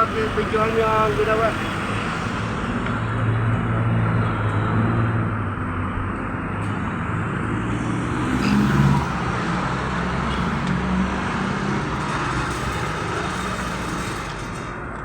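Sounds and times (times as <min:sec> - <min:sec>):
vehicle engine noise: 0:00.0 - 0:15.0.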